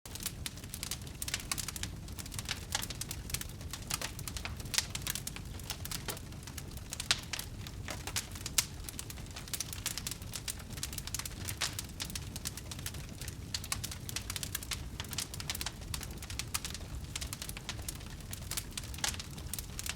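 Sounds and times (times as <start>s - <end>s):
wood fire crackling: 0.1s - 19.9s.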